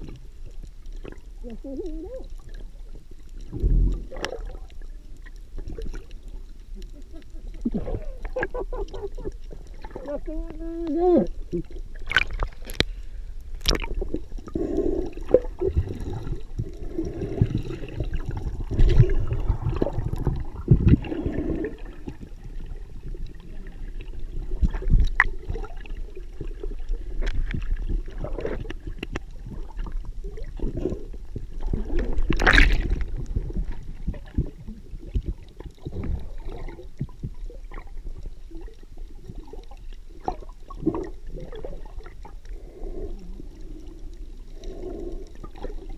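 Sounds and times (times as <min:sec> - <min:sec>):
water sloshing and gurgling: 0:00.0 - 0:45.9.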